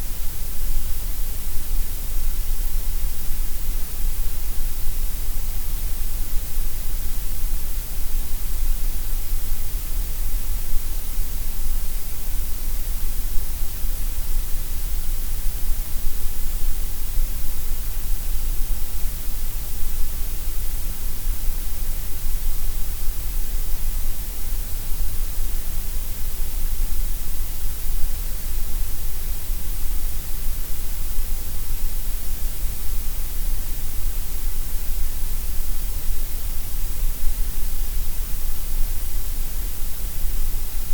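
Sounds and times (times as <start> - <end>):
steady gray noise hiss: 0.0 - 40.9.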